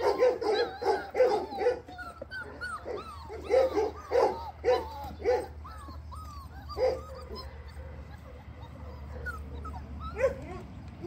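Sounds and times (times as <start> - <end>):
puppies whining and yelping: 0.0 - 11.0
high whimpers: 0.6 - 10.3.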